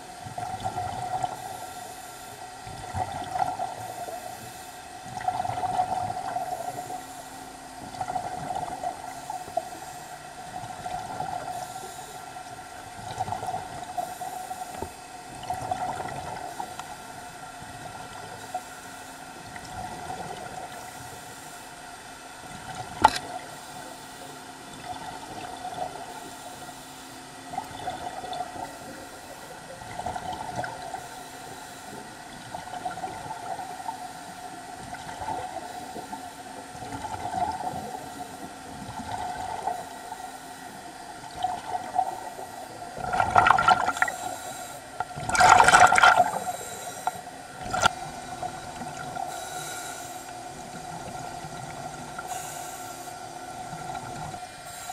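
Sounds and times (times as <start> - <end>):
faint steady hum: 0.0 - 54.9
underwater bubbling: 0.0 - 54.9.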